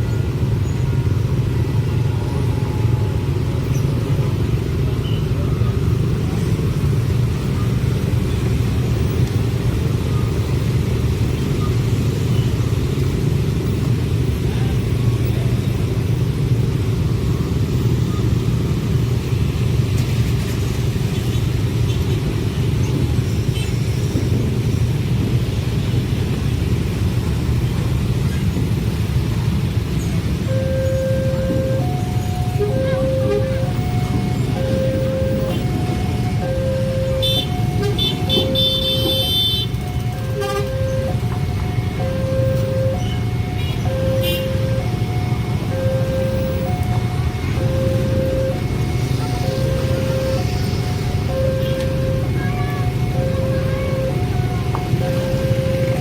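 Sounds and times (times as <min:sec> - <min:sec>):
train passing with low rumble: 0:00.0 - 0:56.0.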